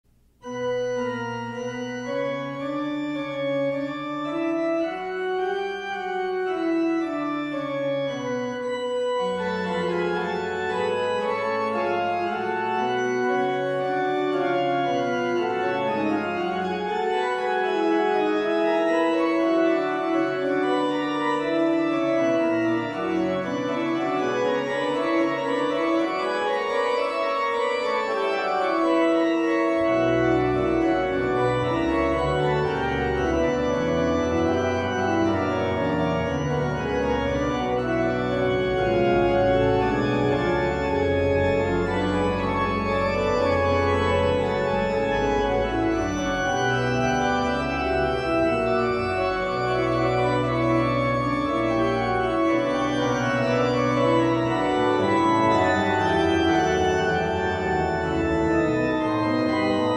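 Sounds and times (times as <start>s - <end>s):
organ-like keyboard chords: 0.4s - 59.9s.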